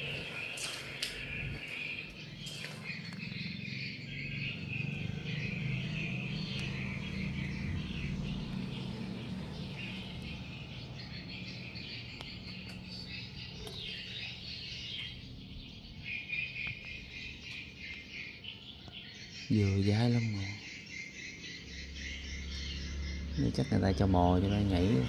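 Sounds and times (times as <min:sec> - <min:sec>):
birds chirping: 0:00.0 - 0:25.0
insects trilling: 0:00.0 - 0:25.0.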